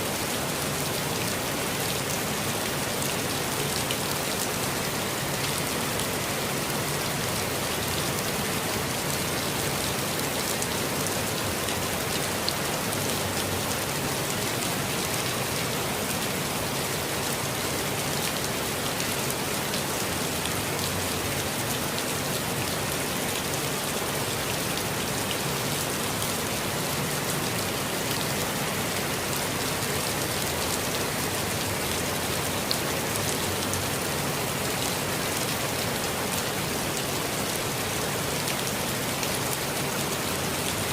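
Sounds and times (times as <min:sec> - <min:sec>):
rain falling on foliage: 0:00.0 - 0:40.9.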